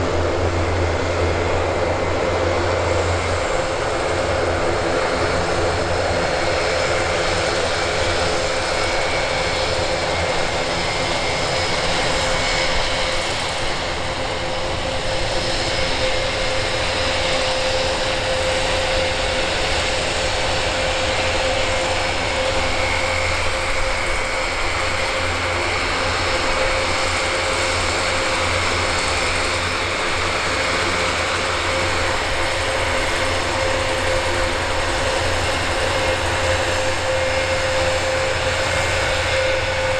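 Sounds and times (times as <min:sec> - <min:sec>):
steady high whine: 0:00.0 - 0:39.9
turboprop engines droning: 0:00.0 - 0:39.9.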